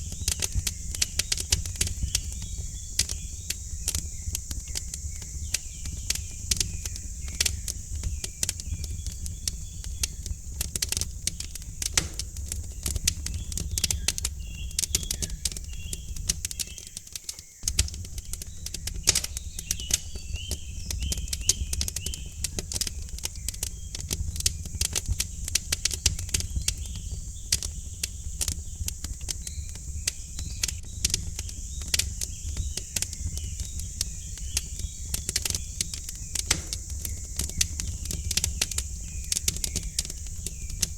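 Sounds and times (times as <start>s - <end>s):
low rumble of flames: 0.0s - 40.9s
sharp pops of fire: 0.0s - 40.9s
small birds chirping faintly: 0.0s - 40.9s
wood fire crackling: 0.0s - 40.9s.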